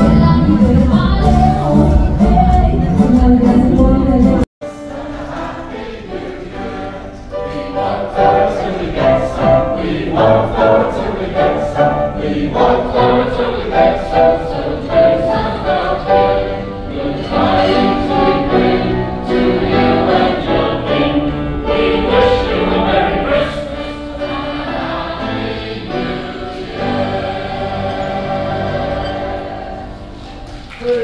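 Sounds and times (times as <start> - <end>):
choir singing: 0.0 - 30.5.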